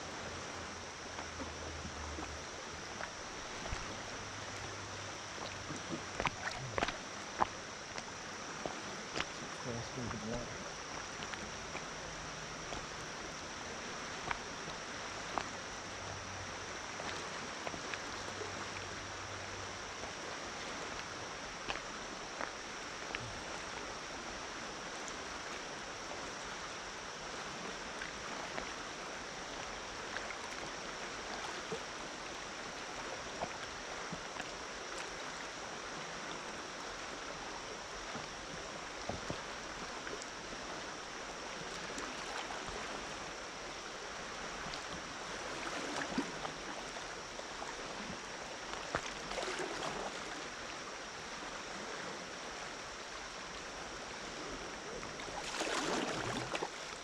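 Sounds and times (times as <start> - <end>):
creek water rushing: 0.0 - 57.0
small sharp ticks and splashes: 0.0 - 57.0.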